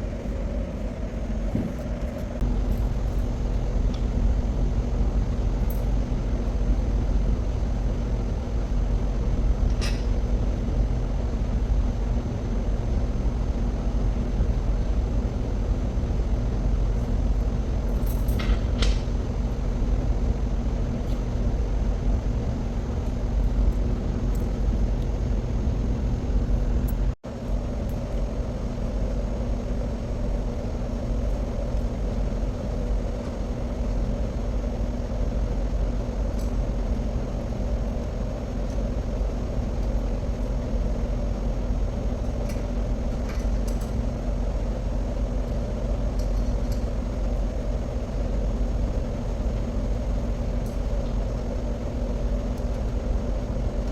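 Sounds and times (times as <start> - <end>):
low machinery drone: 0.0 - 53.9.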